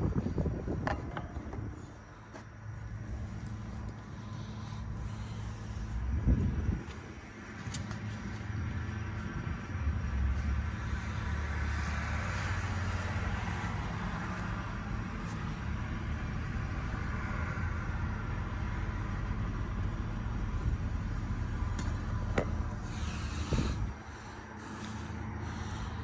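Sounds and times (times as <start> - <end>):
air conditioner units humming: 0.0 - 26.0.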